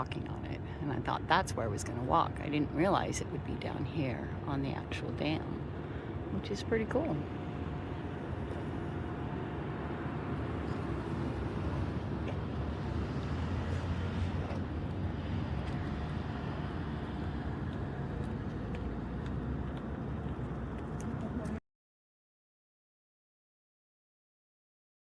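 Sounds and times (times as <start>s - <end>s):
road traffic rumble: 0.0s - 21.6s.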